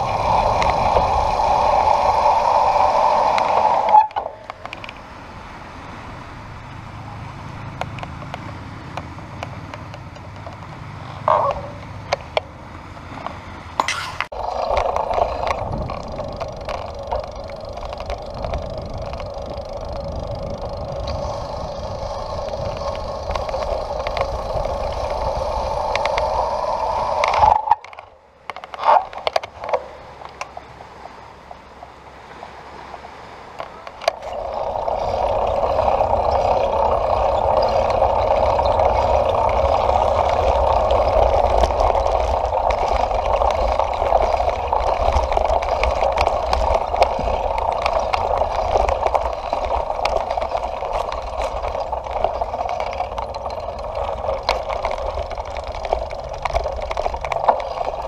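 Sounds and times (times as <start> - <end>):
bicycle tyre and wind noise: 0.0 - 58.0.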